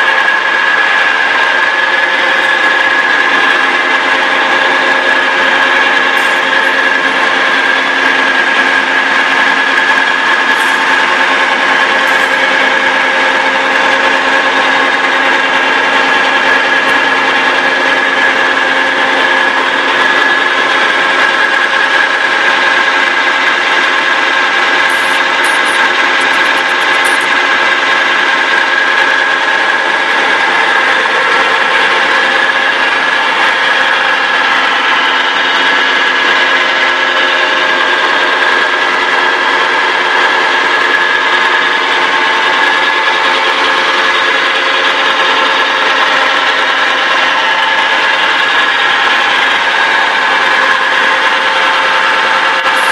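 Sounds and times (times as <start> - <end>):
milling machine running: 0.0 - 52.9.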